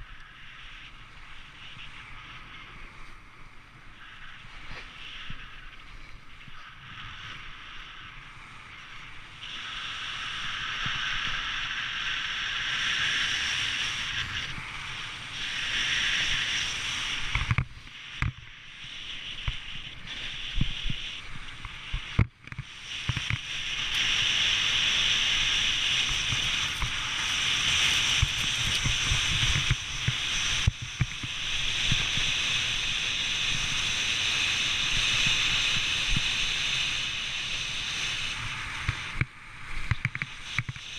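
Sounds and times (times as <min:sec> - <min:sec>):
wind rumble on microphone: 0:00.0 - 0:40.9
snowboard scraping on snow: 0:00.3 - 0:40.9.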